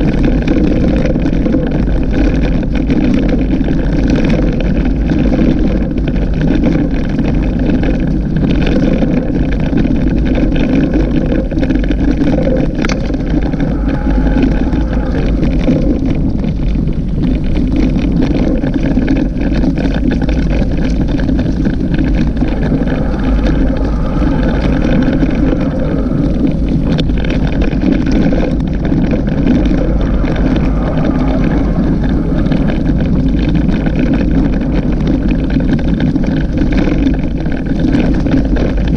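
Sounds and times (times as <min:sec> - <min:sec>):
tyre noise on dirt track: 0:00.0 - 0:38.9
wind rumble on microphone: 0:00.0 - 0:38.9.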